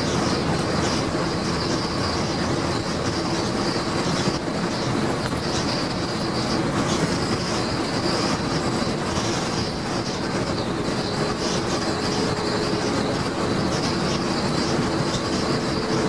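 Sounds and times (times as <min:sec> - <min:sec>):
bus body rattling: 0:00.0 - 0:16.0
bus engine running: 0:00.0 - 0:16.0
road noise: 0:00.0 - 0:16.0.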